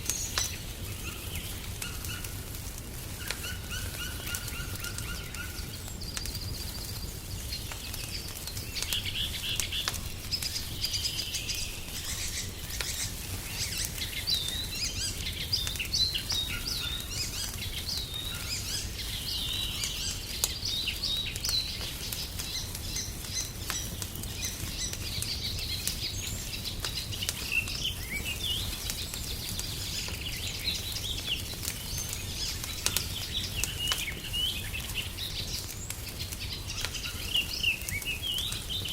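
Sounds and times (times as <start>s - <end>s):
songbirds chirping: 0.0s - 38.9s
wood fire crackling: 0.0s - 38.9s.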